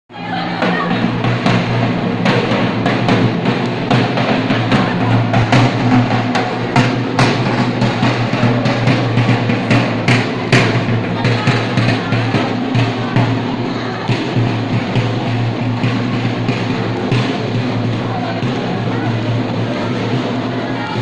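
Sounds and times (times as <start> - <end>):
loud music with drum beat: 0.1 - 21.0.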